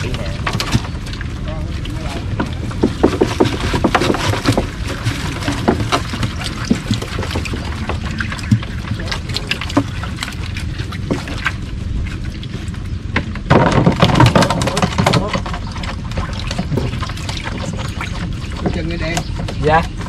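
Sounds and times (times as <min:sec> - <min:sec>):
knocks and clatter on boat: 0:00.0 - 0:20.0
low rumble: 0:00.0 - 0:20.0
water splashing: 0:00.0 - 0:20.0.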